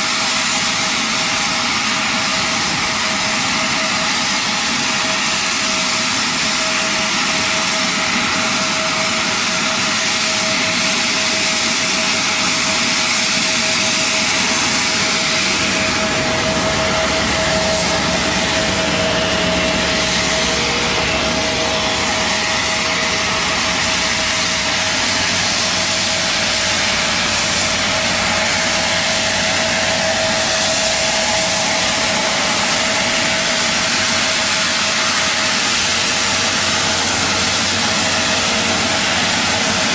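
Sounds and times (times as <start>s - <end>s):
engine running with whine: 0.0s - 39.9s.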